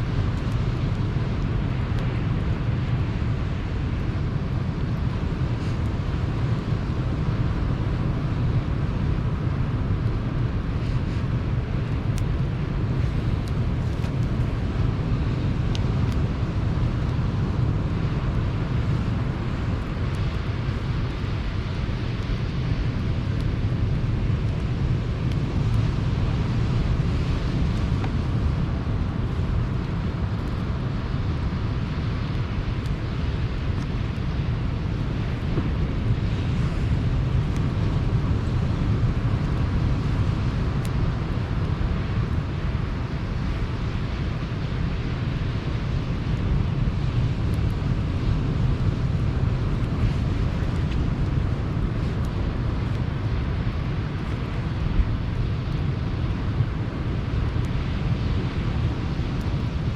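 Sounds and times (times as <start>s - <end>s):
campfire crackling: 0.0s - 59.9s
wind on microphone: 0.0s - 59.9s.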